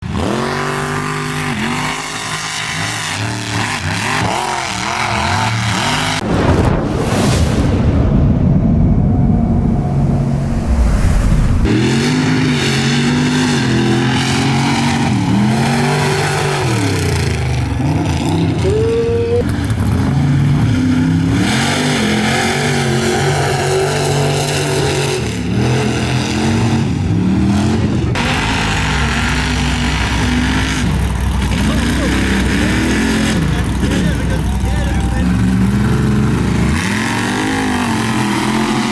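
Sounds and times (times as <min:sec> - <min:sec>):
truck engine revving hard: 0:00.0 - 0:07.1, 0:08.1 - 0:18.6, 0:19.5 - 0:38.9.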